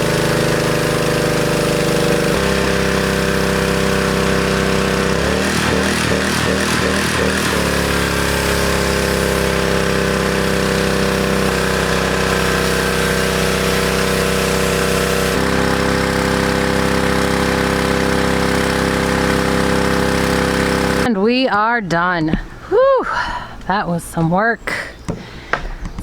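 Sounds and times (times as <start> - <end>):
water spray hiss: 0.0 - 21.1
pressure washer engine running: 0.0 - 21.4.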